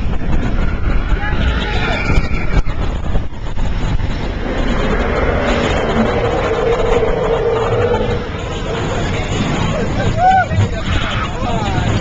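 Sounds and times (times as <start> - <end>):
roller coaster rumbling on track: 0.0 - 12.0
steady whine: 0.0 - 12.0.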